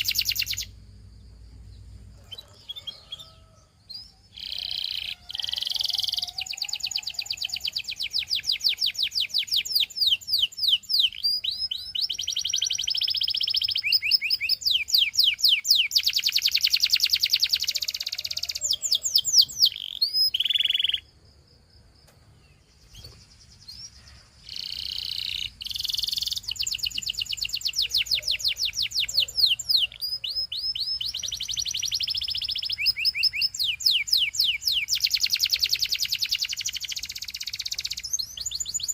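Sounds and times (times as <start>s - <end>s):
canary singing trills: 0.0s - 1.0s, 1.6s - 21.1s, 22.5s - 38.9s.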